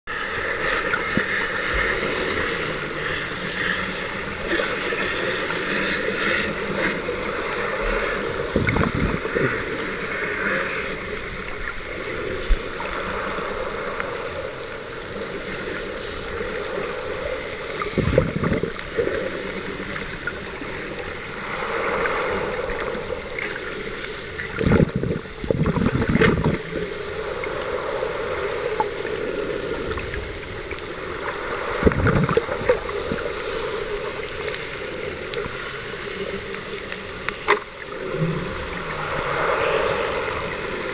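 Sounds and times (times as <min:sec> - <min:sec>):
muffled underwater water noise: 0:00.1 - 0:40.9.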